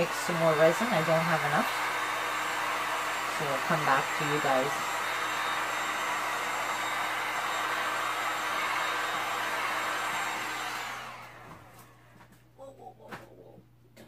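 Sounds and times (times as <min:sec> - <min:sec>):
fan winding down: 0:00.0 - 0:12.2
heat gun blowing with fan whine: 0:00.0 - 0:12.2.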